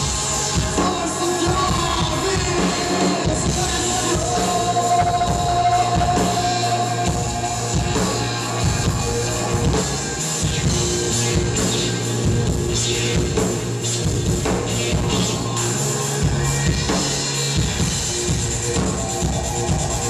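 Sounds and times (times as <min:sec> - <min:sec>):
man singing: 0:00.0 - 0:17.7
live rock band playing: 0:00.0 - 0:20.0.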